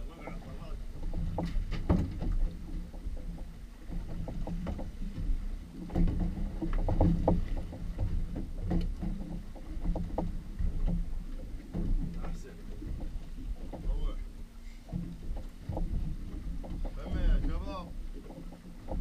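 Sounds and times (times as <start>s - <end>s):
boat engine low rumble: 0.0s - 19.0s
water slapping against hull: 0.0s - 19.0s.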